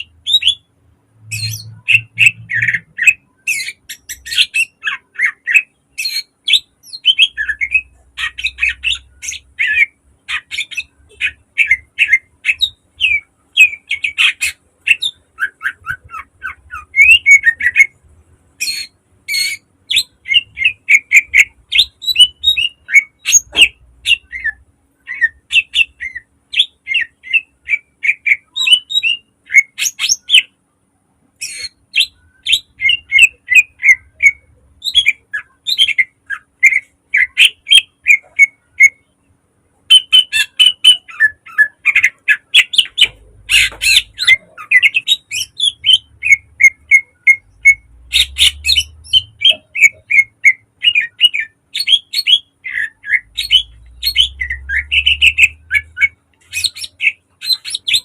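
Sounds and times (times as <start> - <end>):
bird chirping song: 0.0 - 58.0.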